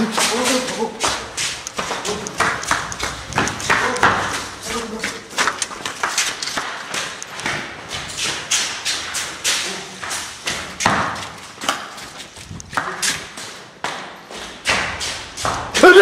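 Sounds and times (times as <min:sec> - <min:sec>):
hurried footsteps on concrete: 0:00.0 - 0:16.0.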